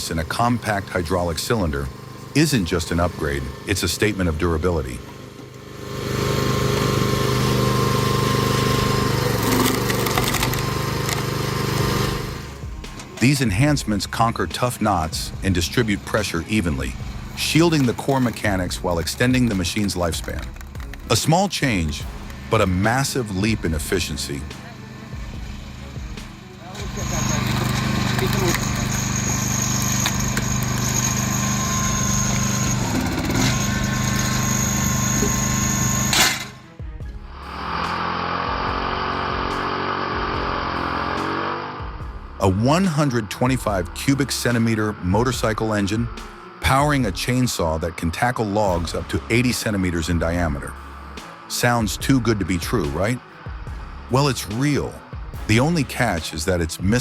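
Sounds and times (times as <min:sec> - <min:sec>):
log splitter hum: 0:00.0 - 0:57.0
small engine running: 0:00.0 - 0:57.0.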